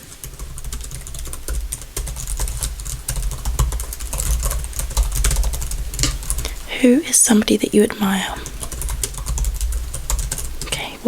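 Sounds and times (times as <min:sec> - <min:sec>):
fast typing on keyboard: 0:00.0 - 0:11.0.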